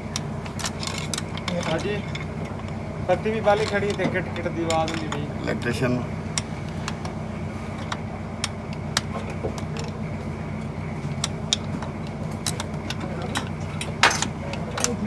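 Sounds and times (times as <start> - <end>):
car engine humming: 0.0 - 15.0
sharp engine clicks: 0.0 - 15.0.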